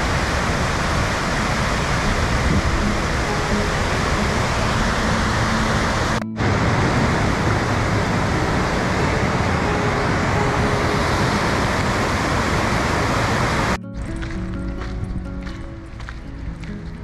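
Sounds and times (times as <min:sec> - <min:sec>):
rushing waterfall: 0:00.0 - 0:17.0.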